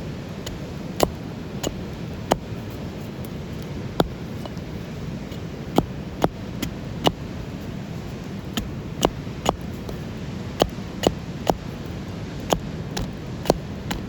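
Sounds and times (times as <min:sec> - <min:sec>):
campfire crackling: 0:00.0 - 0:14.0
steady low background noise: 0:00.0 - 0:14.0.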